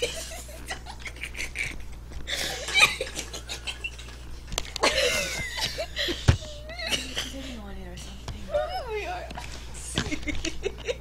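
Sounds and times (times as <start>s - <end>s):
quiet giggling and snickering: 0.0s - 11.0s.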